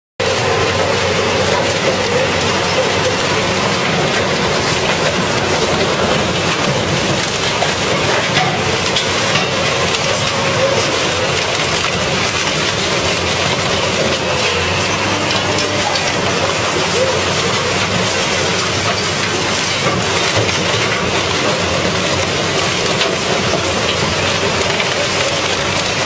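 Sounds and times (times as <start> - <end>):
metal shredder grinding scrap: 0.2 - 26.0.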